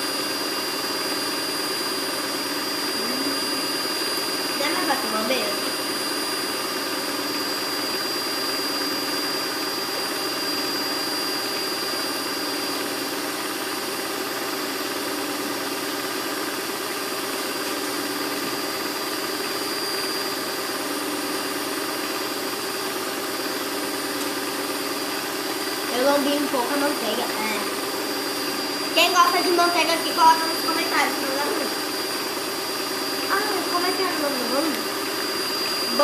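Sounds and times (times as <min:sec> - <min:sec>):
electric mixer motor running: 0:00.0 - 0:36.0.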